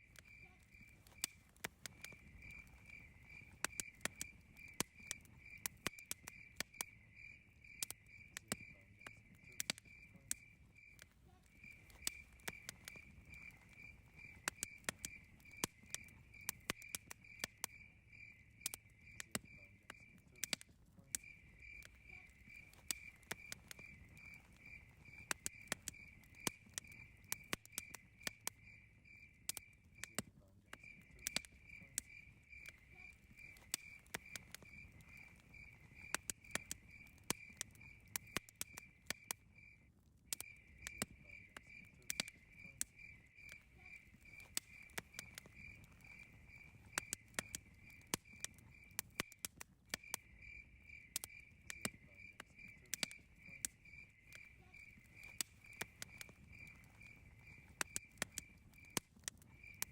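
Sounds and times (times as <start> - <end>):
campfire crackling and popping: 0.0 - 59.9
cricket chirping: 0.0 - 59.9.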